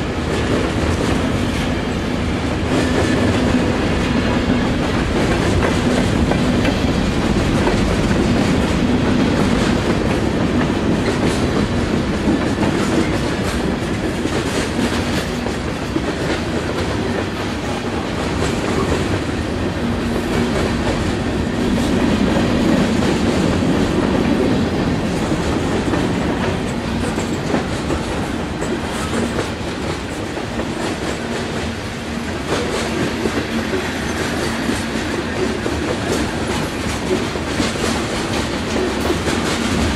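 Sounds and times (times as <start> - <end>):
freight train cars rolling: 0.0 - 39.9.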